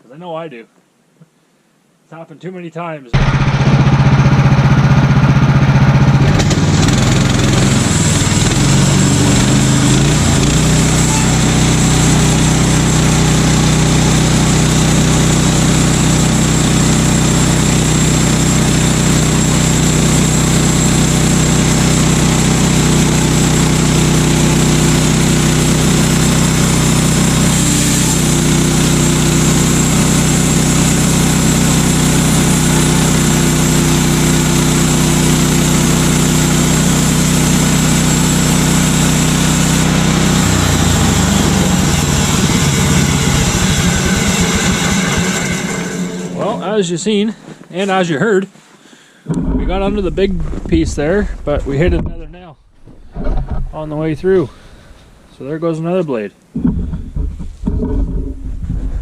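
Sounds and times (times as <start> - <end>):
gas engine running: 3.2 - 47.6, 49.3 - 55.2.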